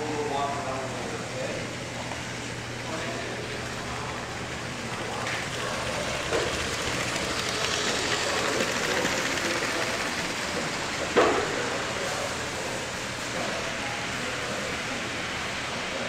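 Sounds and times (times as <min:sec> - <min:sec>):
busy exhibition hall noise: 0:00.0 - 0:16.0.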